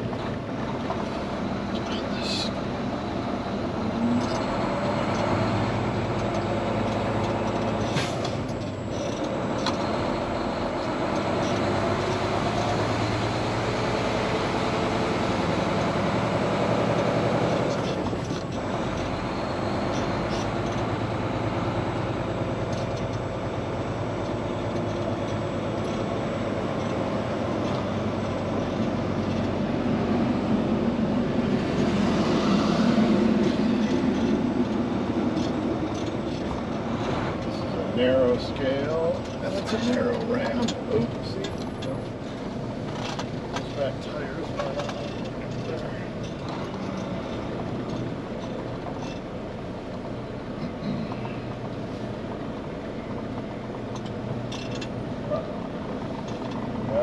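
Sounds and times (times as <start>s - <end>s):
diesel truck engine droning: 0.0s - 57.0s.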